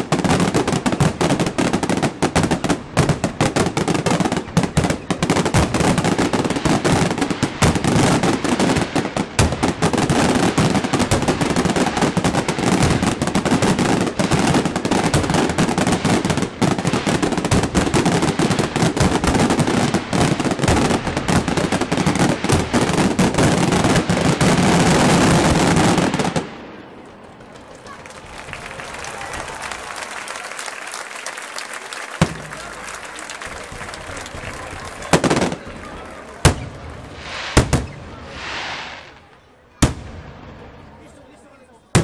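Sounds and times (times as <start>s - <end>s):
fireworks bursting and crackling: 0.0s - 41.2s.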